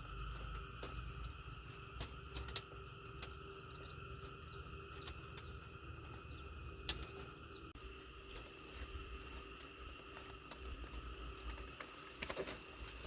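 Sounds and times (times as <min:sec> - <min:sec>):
rural background drone: 0:00.0 - 0:13.0.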